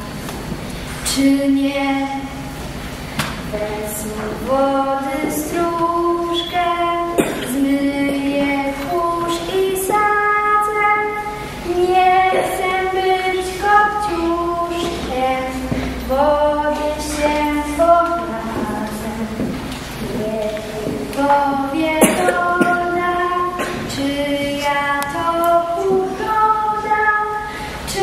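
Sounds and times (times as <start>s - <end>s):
woman singing slow song: 1.0s - 2.5s, 3.4s - 28.0s.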